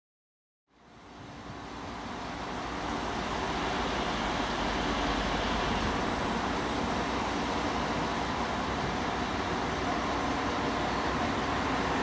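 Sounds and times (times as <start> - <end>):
diesel train engine rumble: 0.7 - 12.0.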